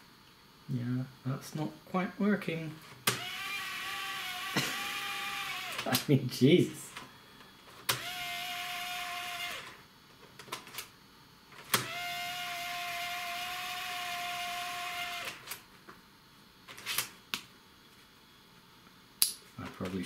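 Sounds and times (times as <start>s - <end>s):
floppy drive buzzy whine: 0.0s - 20.0s.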